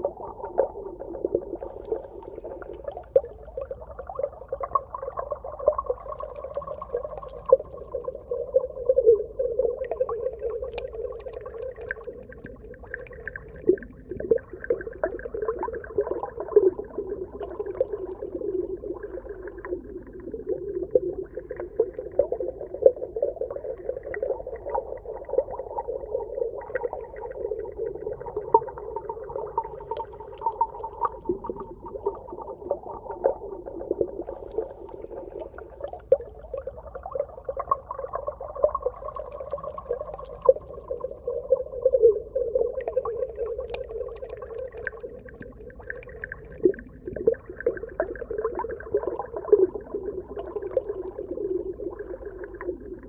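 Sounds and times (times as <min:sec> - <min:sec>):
muffled underwater wash: 0:00.0 - 0:53.0
small underwater pops and crackles: 0:00.4 - 0:08.3, 0:09.8 - 0:53.0.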